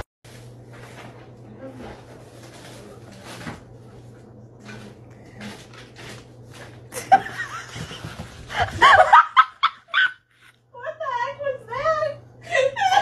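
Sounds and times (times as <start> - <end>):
steady low hum: 0.3 - 13.0.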